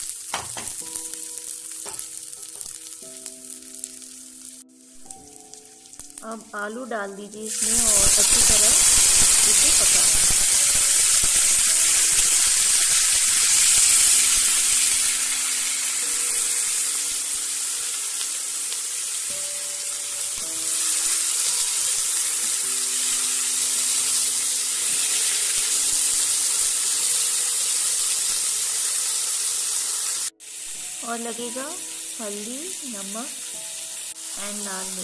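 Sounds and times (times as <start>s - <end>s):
potatoes sizzling in hot oil: 0.0s - 35.0s.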